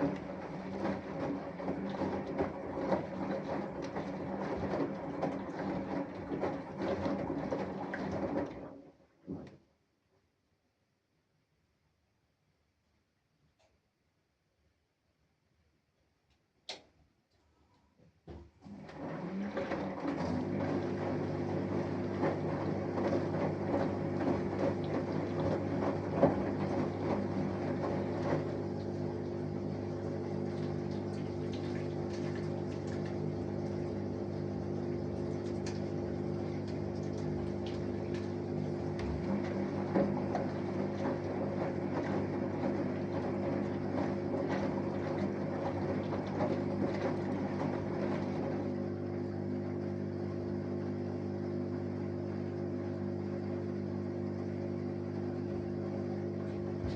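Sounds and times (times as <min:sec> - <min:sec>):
water and laundry sloshing: 0:00.0 - 0:09.5, 0:18.6 - 0:56.9
washing machine motor humming: 0:00.0 - 0:09.6, 0:18.3 - 0:56.9.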